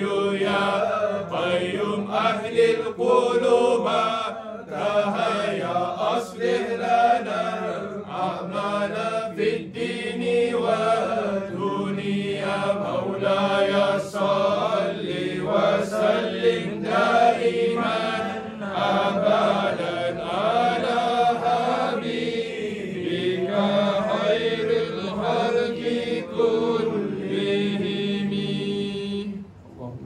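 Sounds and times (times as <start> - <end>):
men chanting: 0.0 - 29.5.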